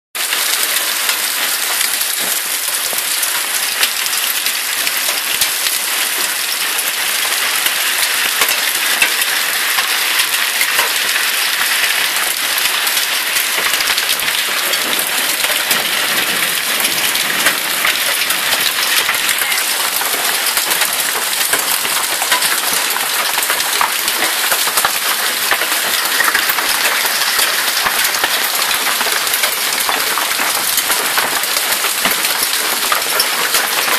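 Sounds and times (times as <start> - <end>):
hailstones ticking: 0.2 - 33.9
heavy rain hissing: 0.2 - 33.9.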